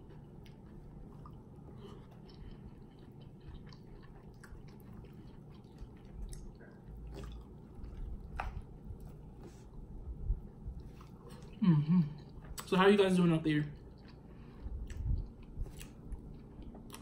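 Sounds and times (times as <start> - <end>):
man chewing food: 0.0 - 17.0.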